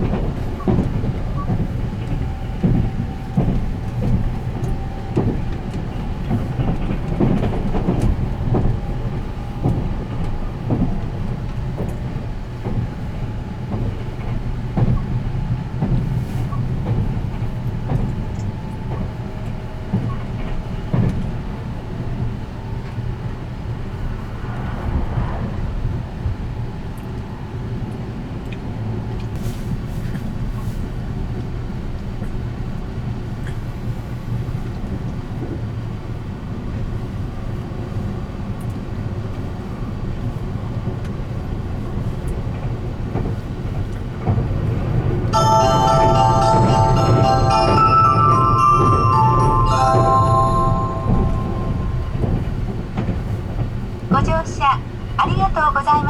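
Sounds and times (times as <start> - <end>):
train rumble inside car: 0.0 - 56.0.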